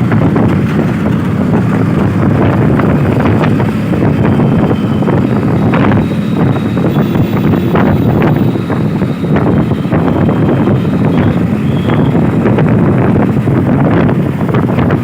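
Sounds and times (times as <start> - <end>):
rumble of passing vehicles: 0.0 - 15.0
wind buffeting microphone: 0.0 - 15.0.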